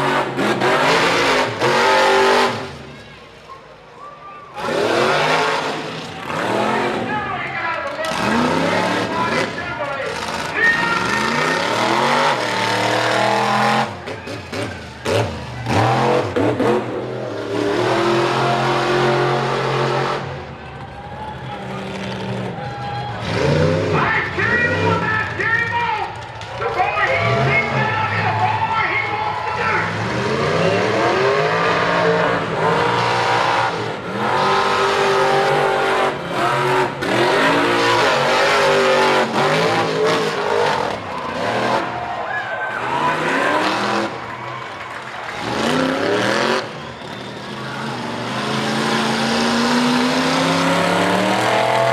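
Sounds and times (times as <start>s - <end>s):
truck engine revving hard: 0.0s - 3.0s, 4.6s - 20.6s, 21.4s - 25.8s, 26.9s - 51.9s.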